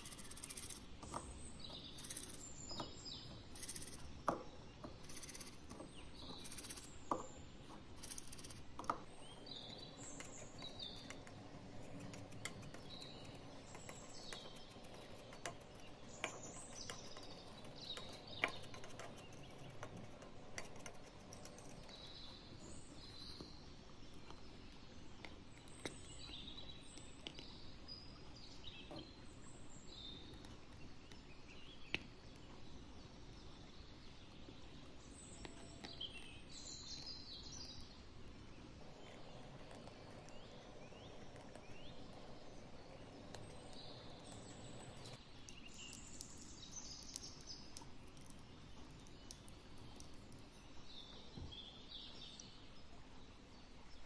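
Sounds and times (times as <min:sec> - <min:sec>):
faint steady hiss: 0:00.0 - 0:54.0
small birds chirping: 0:00.0 - 0:54.0.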